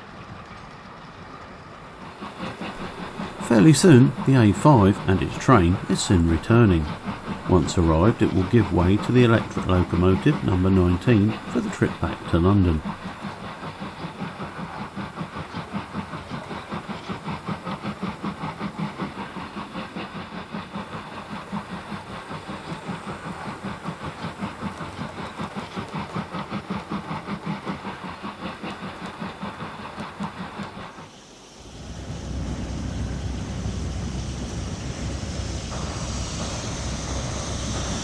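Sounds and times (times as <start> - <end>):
steam locomotive chuffing: 0.0 - 38.0
steam hiss: 2.0 - 38.0.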